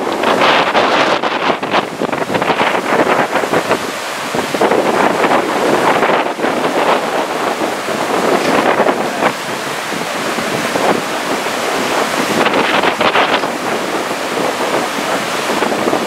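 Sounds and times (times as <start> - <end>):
choppy surf: 0.0 - 16.0
wind buffeting microphone: 0.0 - 16.0.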